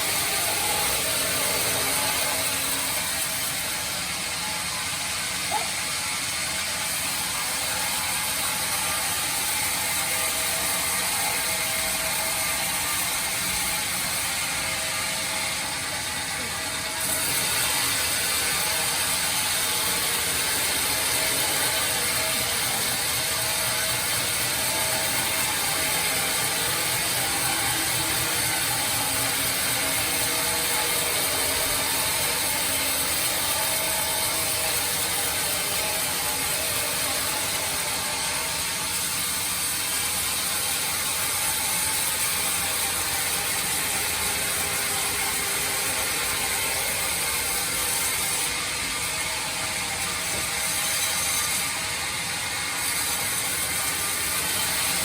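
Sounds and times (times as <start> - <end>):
bandsaw cutting wood: 0.0 - 55.0.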